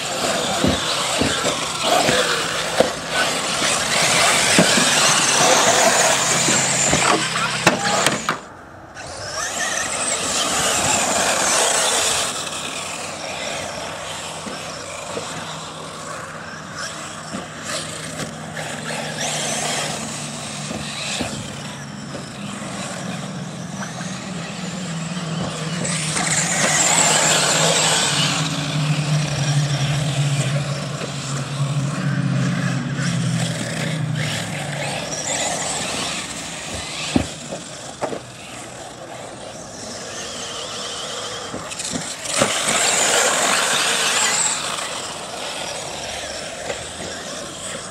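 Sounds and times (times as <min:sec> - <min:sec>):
rc car motor whine: 0:00.0 - 0:47.9.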